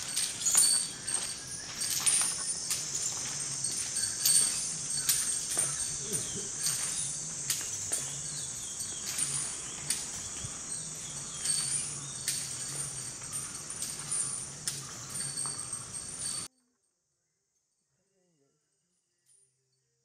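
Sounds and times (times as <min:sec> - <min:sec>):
iron chains clinking: 0:00.0 - 0:16.5.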